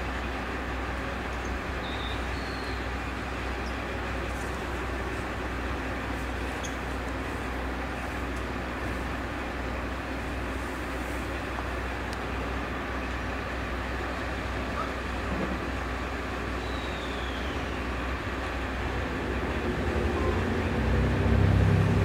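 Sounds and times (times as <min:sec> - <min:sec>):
diesel railcar engines idling: 0:00.0 - 0:22.0.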